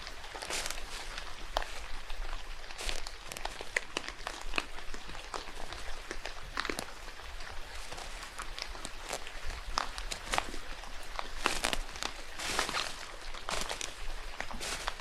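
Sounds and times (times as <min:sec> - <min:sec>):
rain falling in a forest: 0:00.0 - 0:15.0
sharp drips and crackles: 0:00.0 - 0:15.0.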